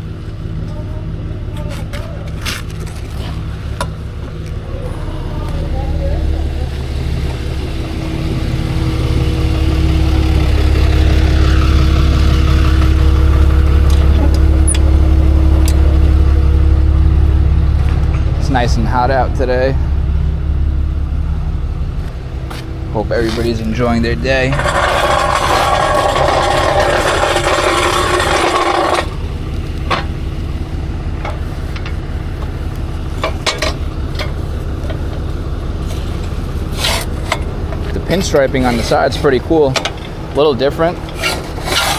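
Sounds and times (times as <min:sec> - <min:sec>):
vehicle engine droning: 0:00.0 - 0:41.9.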